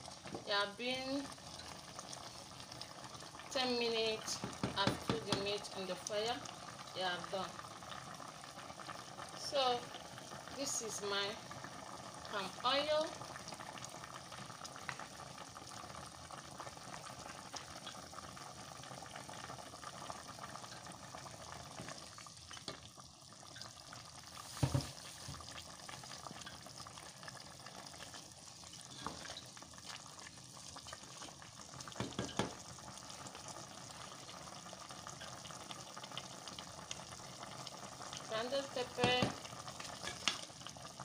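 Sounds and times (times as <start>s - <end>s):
soup bubbling in a pot: 0.0s - 41.0s.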